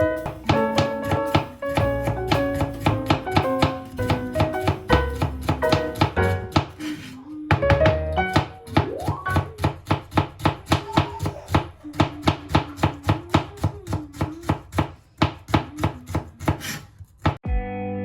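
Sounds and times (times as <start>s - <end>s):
knife chopping on cutting board: 0.0s - 17.4s.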